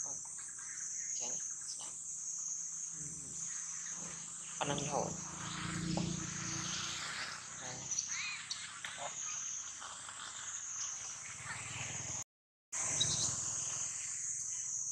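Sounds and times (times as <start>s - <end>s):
insects chorus: 0.0s - 12.2s, 12.8s - 14.9s
short insect chirps: 0.0s - 12.2s, 12.8s - 14.9s.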